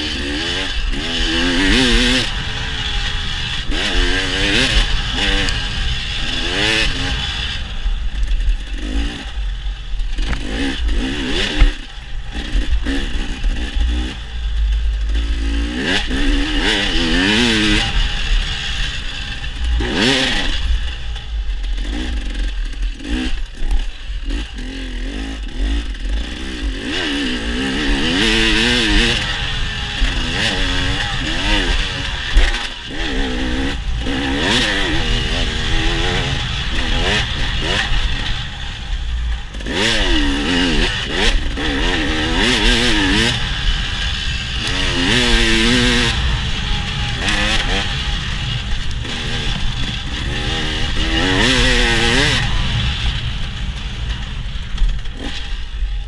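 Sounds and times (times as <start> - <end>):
constant low rumble: 0.0 - 56.0
dirt bike engine revving: 0.0 - 56.0.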